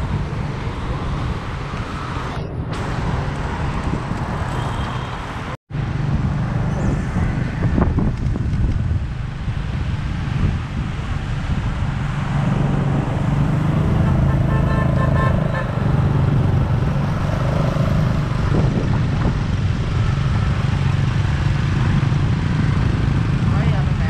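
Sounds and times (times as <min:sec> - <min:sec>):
wind buffeting a microphone: 0:00.0 - 0:04.6, 0:05.9 - 0:14.0, 0:15.7 - 0:24.0
city traffic noise: 0:00.0 - 0:24.0.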